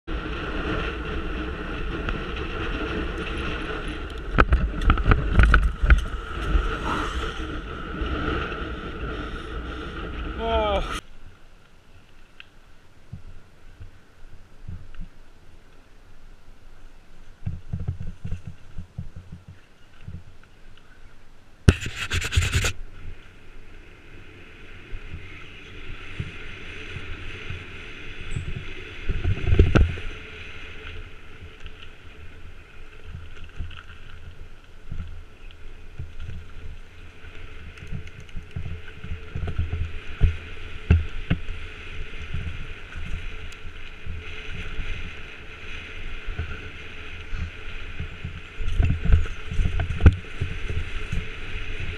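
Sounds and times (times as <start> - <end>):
wind: 0.0 - 51.9
bike tyres rumbling on dirt: 0.1 - 15.7, 17.3 - 20.7, 21.7 - 51.9.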